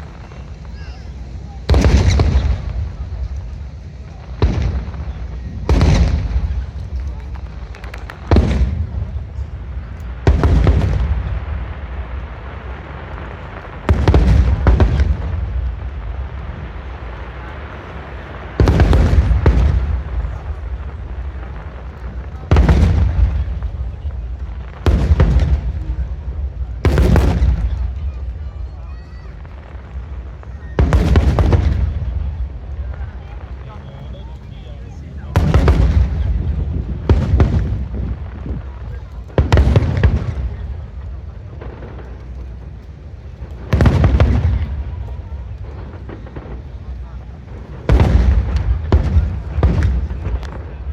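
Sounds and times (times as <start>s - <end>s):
firework shells bursting: 0.0s - 50.9s.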